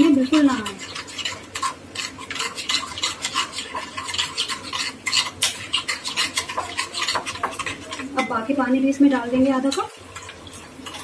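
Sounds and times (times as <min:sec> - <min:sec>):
spoon scraping paste in bowl: 0:00.0 - 0:08.6, 0:09.5 - 0:11.0.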